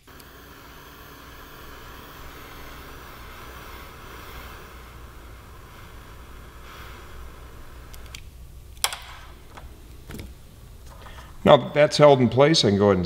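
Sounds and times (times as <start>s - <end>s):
heat gun hissing and humming: 0.0s - 11.9s.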